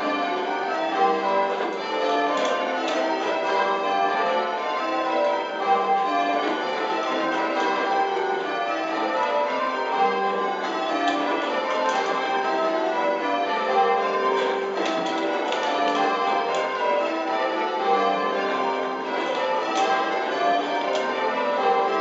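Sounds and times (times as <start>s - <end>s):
church bells change ringing: 0.0s - 22.0s.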